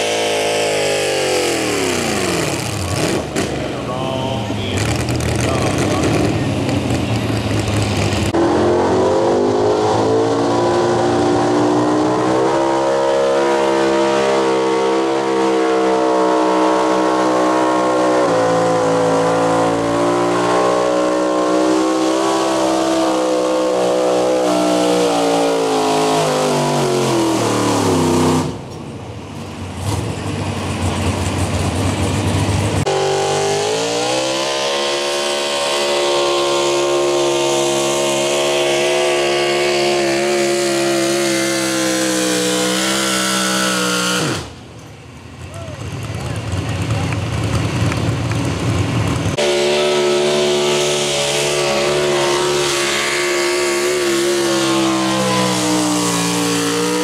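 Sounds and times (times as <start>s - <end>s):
truck engine revving at full throttle: 0.0s - 57.0s.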